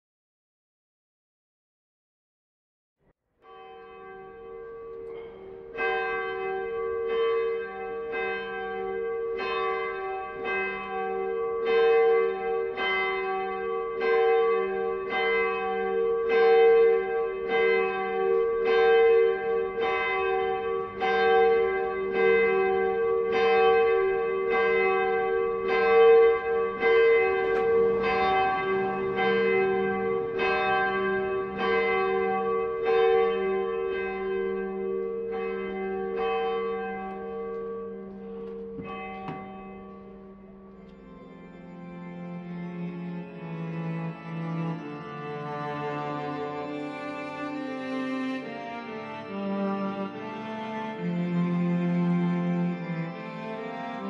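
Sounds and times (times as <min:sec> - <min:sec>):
church bells ringing: 0:03.4 - 0:54.0.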